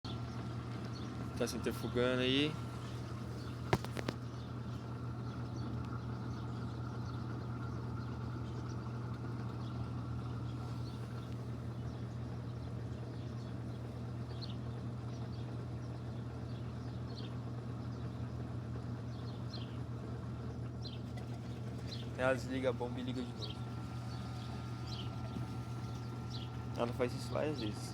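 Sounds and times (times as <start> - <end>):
washing machine spin cycle hum: 0.0 - 27.9.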